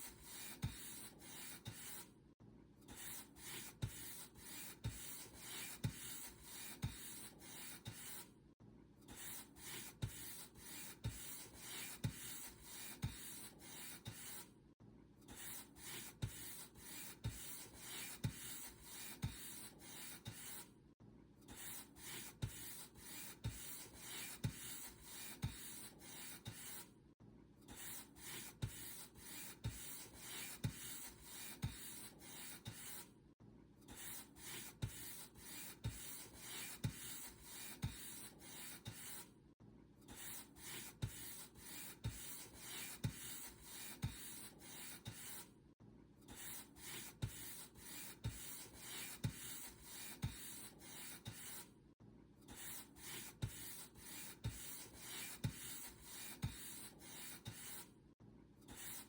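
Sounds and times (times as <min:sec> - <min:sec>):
paint brush scratchy strokes: 0:00.0 - 0:02.1, 0:03.0 - 0:08.3, 0:09.2 - 0:14.4, 0:15.4 - 0:20.7, 0:21.6 - 0:26.9, 0:27.8 - 0:33.1, 0:33.9 - 0:39.3, 0:40.1 - 0:45.5, 0:46.3 - 0:51.7, 0:52.5 - 0:57.9.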